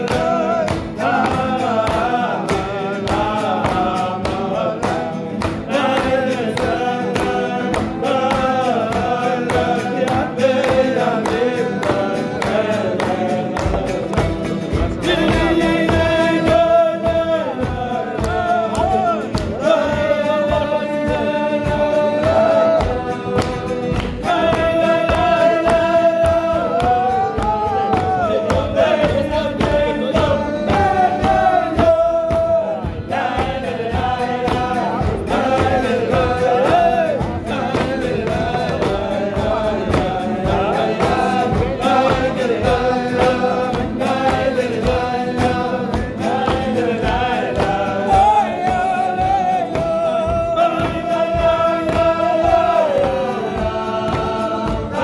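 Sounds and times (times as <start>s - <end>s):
men singing together: 0.0s - 55.0s.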